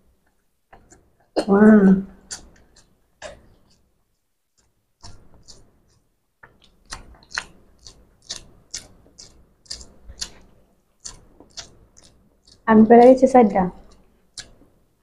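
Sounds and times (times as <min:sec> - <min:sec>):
man chewing: 0:00.2 - 0:01.4, 0:02.1 - 0:12.7, 0:13.8 - 0:15.0.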